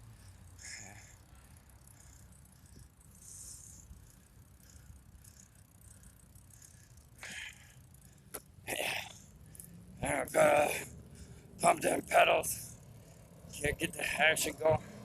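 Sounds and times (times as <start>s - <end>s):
bicycle rattles: 0.0s - 15.0s
bicycle rolling: 0.0s - 15.0s.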